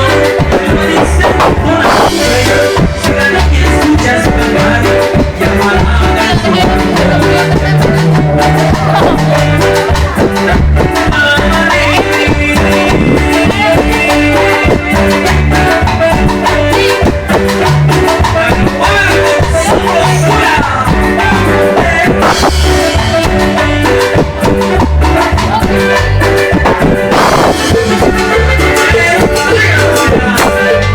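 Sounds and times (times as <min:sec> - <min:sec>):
latin dance music on keyboard: 0:00.0 - 0:30.9.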